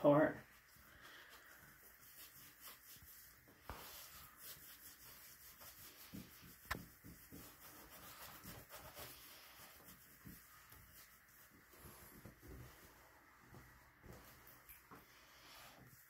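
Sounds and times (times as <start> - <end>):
towel rubbing wet fur: 0.4 - 16.0.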